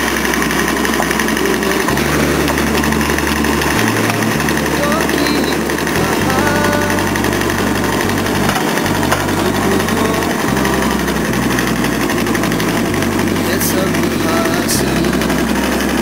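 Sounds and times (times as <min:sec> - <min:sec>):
brick making machine droning: 0:00.0 - 0:16.0.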